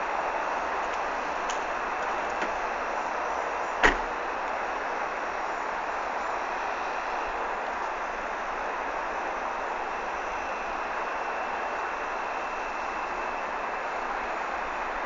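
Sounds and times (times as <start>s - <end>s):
car road and tyre noise: 0.0s - 15.0s.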